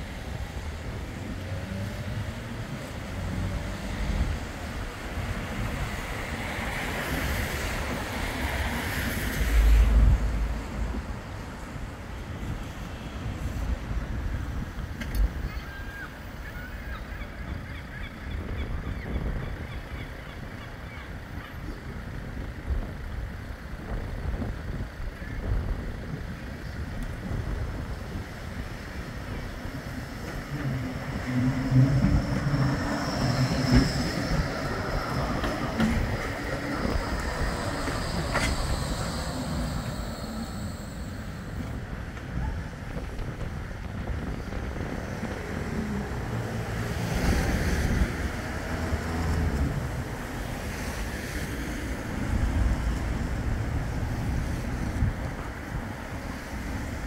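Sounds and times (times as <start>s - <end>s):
tram motors whining: 0.0s - 57.0s
tram wheels running on rails: 0.0s - 57.0s.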